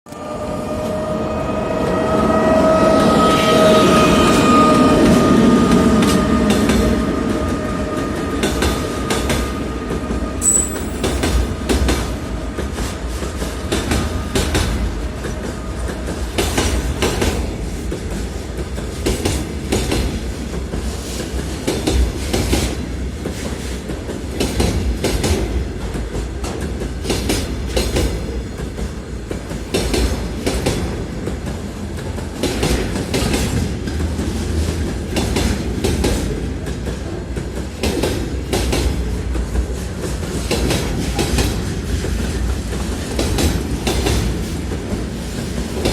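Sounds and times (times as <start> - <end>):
freight train rumbling: 0.1 - 45.9.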